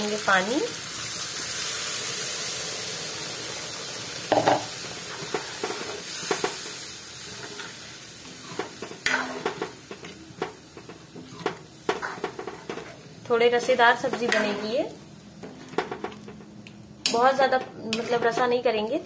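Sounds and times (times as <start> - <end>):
water sizzling in hot pan: 0.0 - 16.2.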